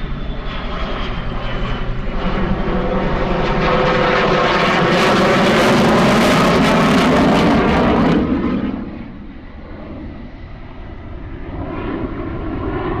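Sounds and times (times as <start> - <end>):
fighter jet engine rumble: 0.0 - 13.0.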